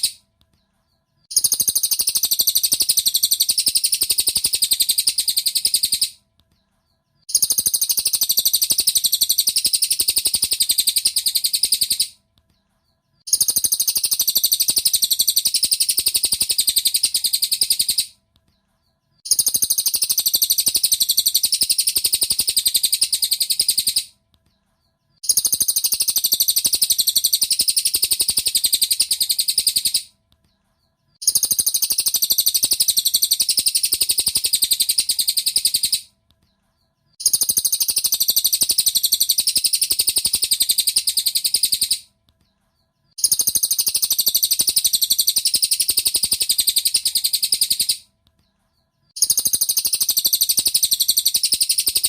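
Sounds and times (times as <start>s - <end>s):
bird rapid high chattering: 0.0s - 0.2s, 1.2s - 6.2s, 7.2s - 12.2s, 13.2s - 18.2s, 19.2s - 24.2s, 25.2s - 30.1s, 31.2s - 36.1s, 37.1s - 42.1s, 43.1s - 48.1s, 49.1s - 52.0s.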